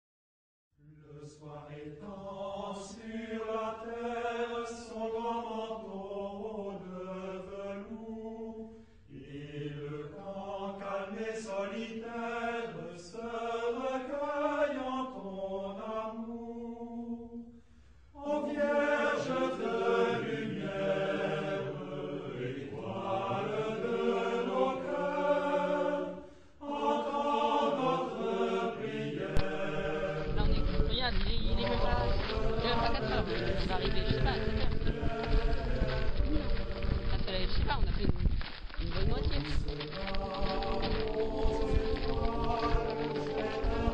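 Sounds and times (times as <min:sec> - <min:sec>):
voices chanting: 0:01.2 - 0:17.0, 0:18.2 - 0:38.1, 0:38.8 - 0:43.9.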